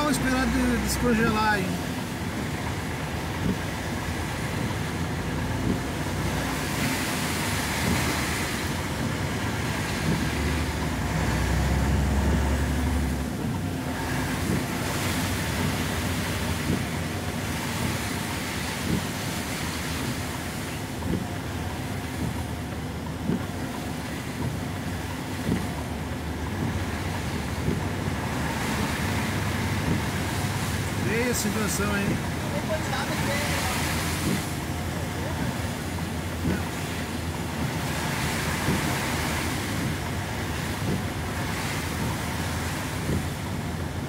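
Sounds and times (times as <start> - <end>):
truck engines rumbling: 0.0 - 44.0
tyres hissing on wet road: 0.0 - 44.0.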